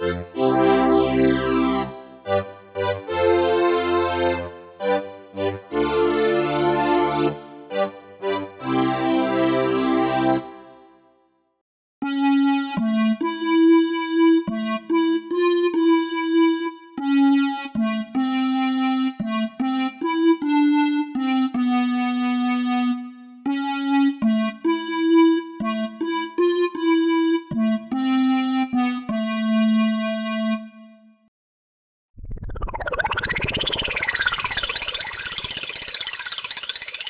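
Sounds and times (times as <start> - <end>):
square-wave synthesizer melody: 0.0 - 10.6, 12.0 - 31.1, 33.1 - 37.0.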